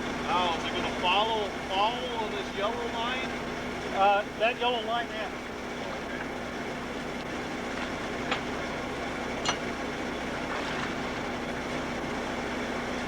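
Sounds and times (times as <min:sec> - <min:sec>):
machinery engine drone: 0:00.0 - 0:13.0.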